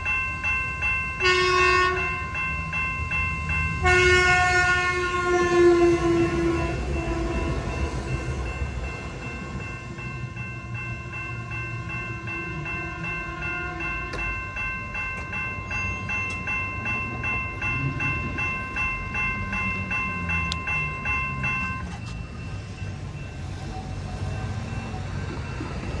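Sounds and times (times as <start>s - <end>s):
low train and traffic rumble: 0.0s - 26.0s
railroad crossing bell ringing: 0.0s - 26.0s.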